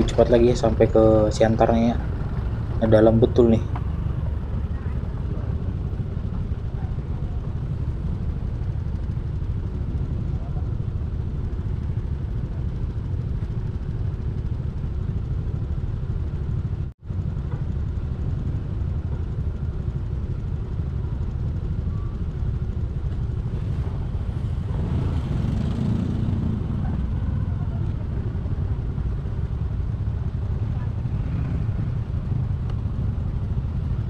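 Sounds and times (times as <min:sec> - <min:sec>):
vehicle engine and road rumble: 0:00.0 - 0:34.0.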